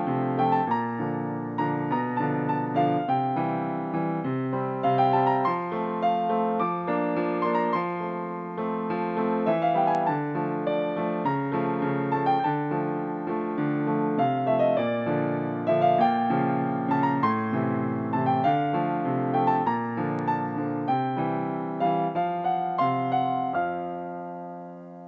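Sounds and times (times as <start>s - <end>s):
gentle solo piano piece: 0.0s - 25.0s.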